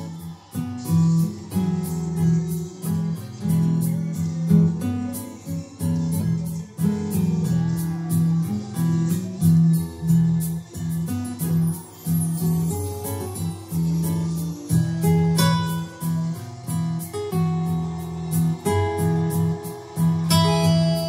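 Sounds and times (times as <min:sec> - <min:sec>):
high ticking accompaniment beat: 0:00.0 - 0:21.0
keyboard plucked melody: 0:00.0 - 0:21.0.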